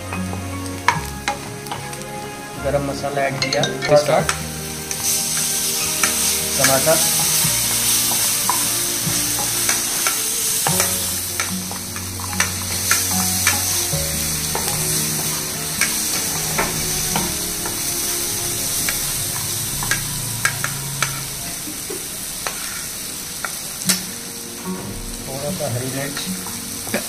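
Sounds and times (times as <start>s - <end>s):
vegetables sizzling in oil: 0.0s - 27.0s
wooden spatula scraping pan: 0.0s - 27.0s.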